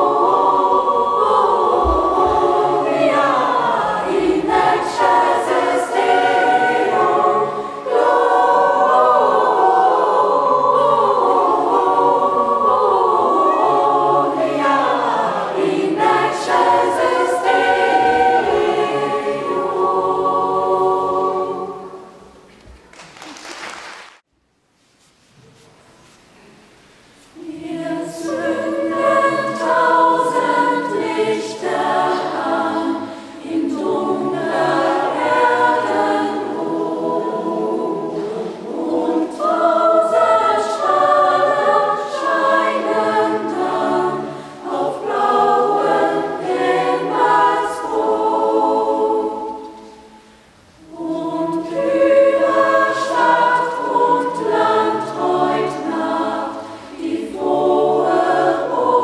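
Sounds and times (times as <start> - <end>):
children's choir singing: 0.0 - 22.5, 27.3 - 59.0.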